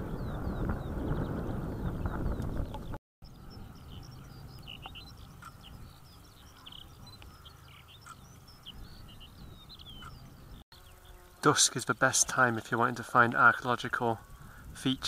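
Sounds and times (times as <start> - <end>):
wind buffeting microphone: 0.0 - 10.6, 12.7 - 15.0
small birds chirping: 0.0 - 15.0.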